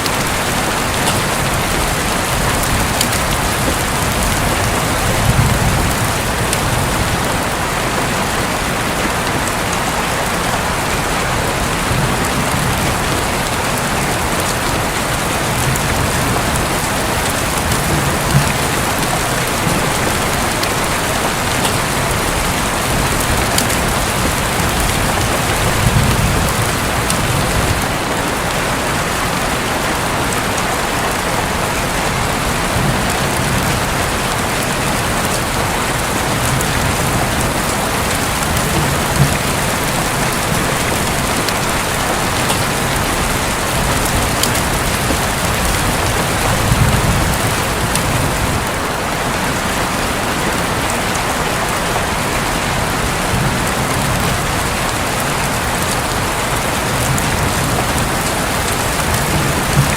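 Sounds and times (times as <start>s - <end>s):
thunder rumbling: 0.0s - 49.7s, 50.6s - 59.9s
heavy rain on a roof: 0.0s - 59.9s.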